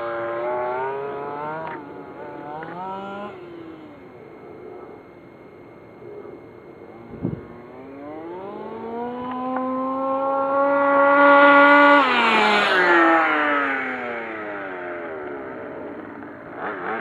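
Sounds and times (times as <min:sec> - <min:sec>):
two-stroke rc buggy engine: 0:00.0 - 0:05.0, 0:06.0 - 0:17.0.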